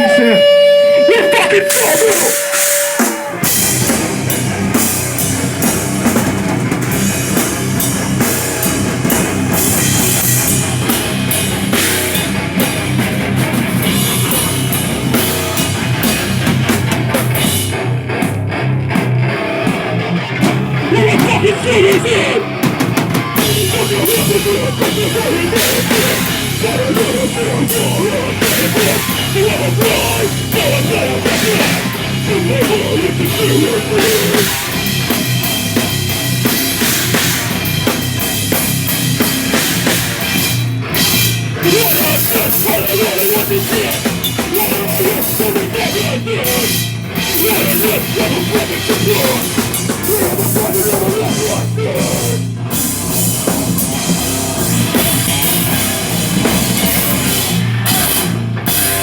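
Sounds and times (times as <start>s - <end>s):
live heavy rock band: 0.0s - 59.0s
pounding drum kit: 1.6s - 59.0s.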